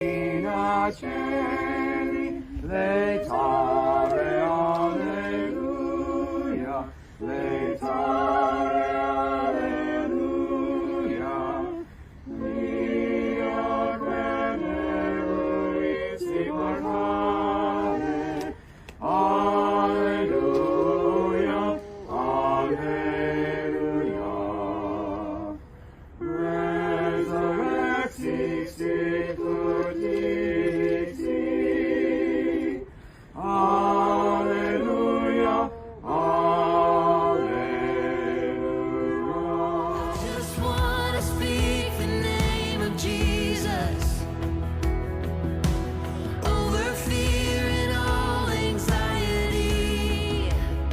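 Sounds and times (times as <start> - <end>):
choir singing sustained chords: 0.0 - 50.9.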